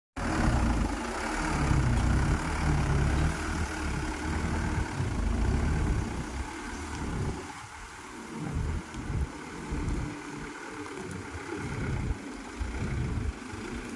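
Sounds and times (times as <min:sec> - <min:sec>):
diesel truck engine rumbling: 0:00.2 - 0:13.9.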